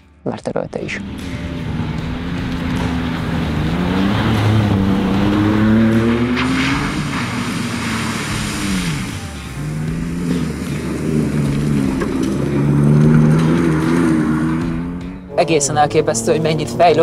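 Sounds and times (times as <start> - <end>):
tyres throwing sand and water: 1.0 - 15.1
engine revving hard: 1.0 - 17.0.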